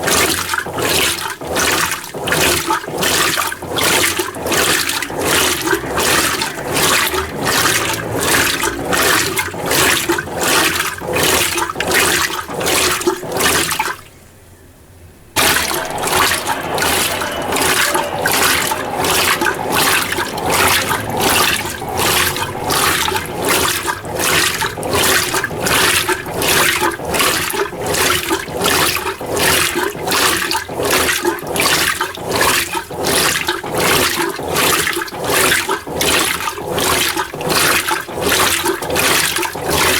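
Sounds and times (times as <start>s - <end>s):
washing machine sloshing water: 0.0s - 14.2s, 15.4s - 39.9s.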